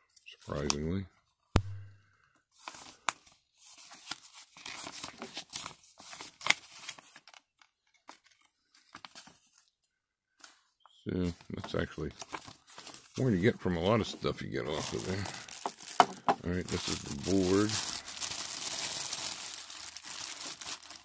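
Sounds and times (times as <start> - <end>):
paper rustling and crinkling: 2.5 - 9.7, 11.3 - 21.0.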